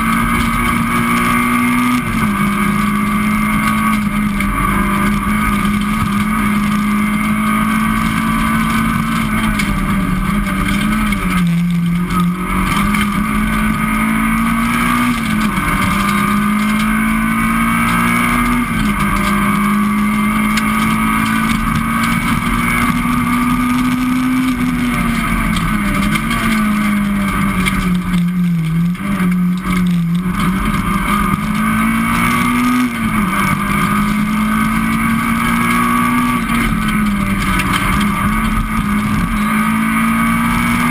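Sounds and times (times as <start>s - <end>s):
rally car engine revving: 0.0s - 40.9s
road and cabin noise: 0.0s - 40.9s.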